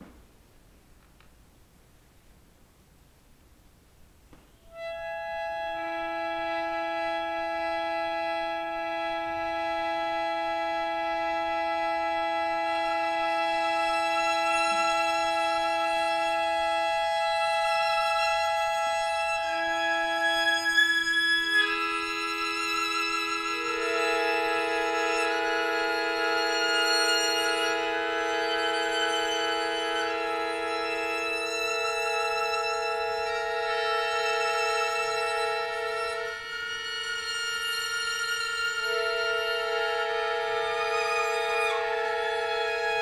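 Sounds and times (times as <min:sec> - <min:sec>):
small ensemble sustained chord: 0:04.6 - 0:43.0.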